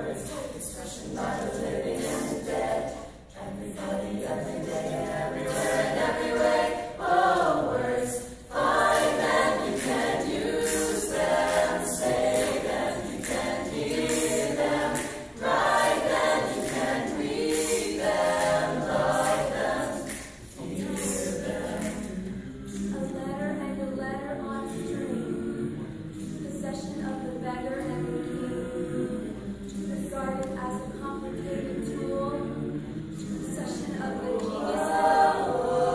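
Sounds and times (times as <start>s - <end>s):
mixed choir singing a cappella: 0.0s - 35.9s.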